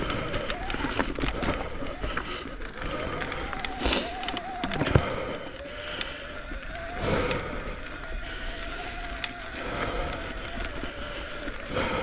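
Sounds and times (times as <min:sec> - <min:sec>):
bike clicking and rattling: 0:00.0 - 0:12.0
tyres crunching over loose stones: 0:00.0 - 0:12.0.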